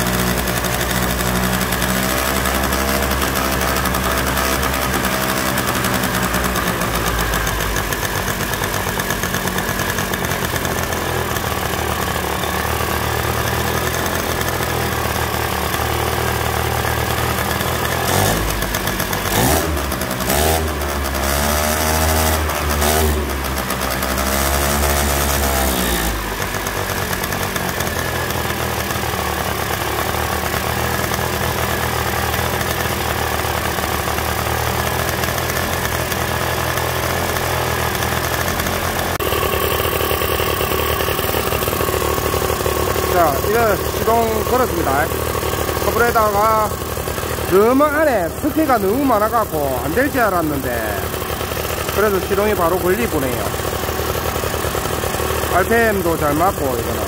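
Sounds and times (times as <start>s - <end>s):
scooter engine idling and revving: 0.0s - 57.0s.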